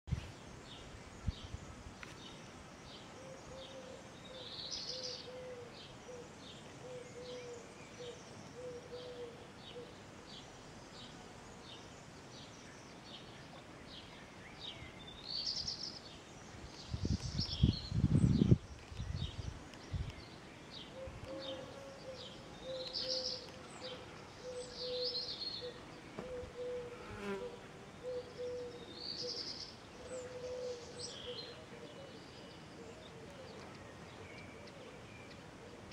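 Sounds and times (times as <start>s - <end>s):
small birds chirping: 0.2s - 27.4s, 28.0s - 35.9s.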